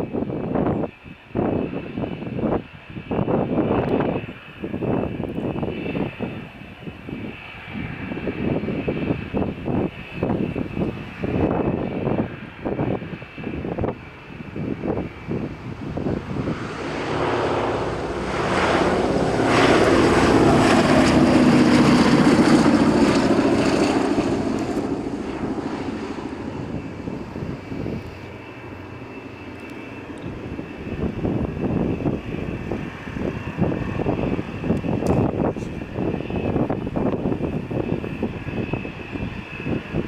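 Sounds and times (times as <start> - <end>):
propeller plane engines droning: 0.0 - 40.0.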